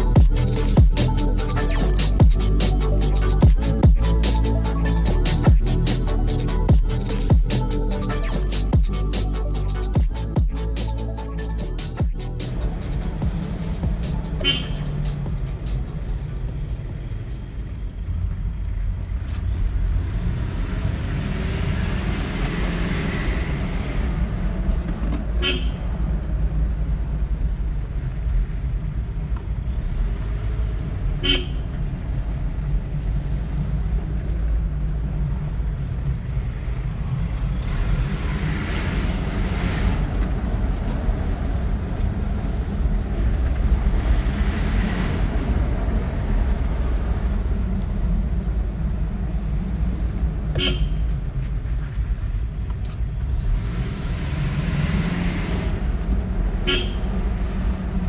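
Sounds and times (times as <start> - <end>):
road traffic rumble: 0.0 - 58.0
vehicles passing by: 0.0 - 58.0.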